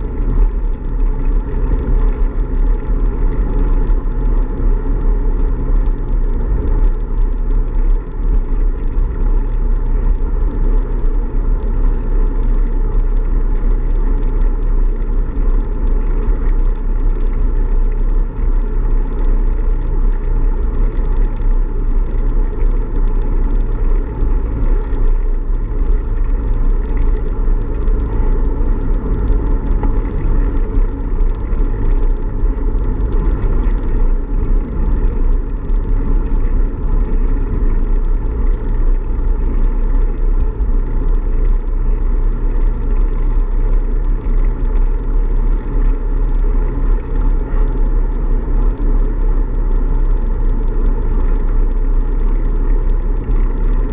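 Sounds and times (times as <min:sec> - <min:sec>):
road rumble: 0:00.0 - 0:53.9.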